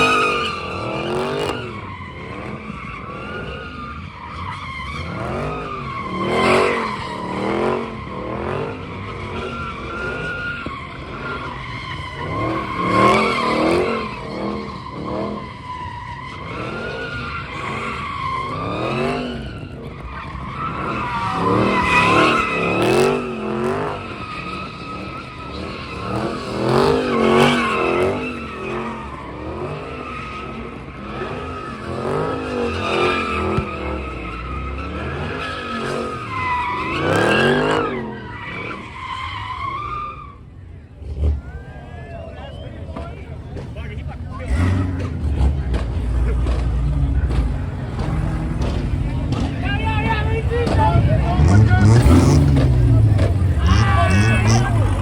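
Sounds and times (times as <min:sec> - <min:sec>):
car engines revving: 0:00.0 - 0:55.0
tyres squealing: 0:00.0 - 0:55.0.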